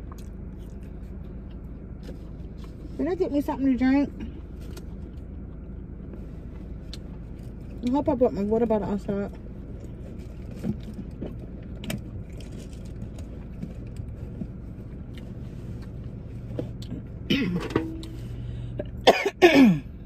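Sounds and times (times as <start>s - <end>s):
low car cabin hum: 0.0s - 20.0s.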